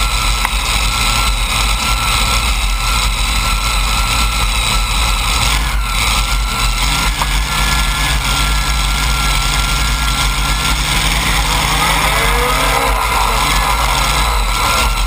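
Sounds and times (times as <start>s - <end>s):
tractor engines idling: 0.0s - 15.0s.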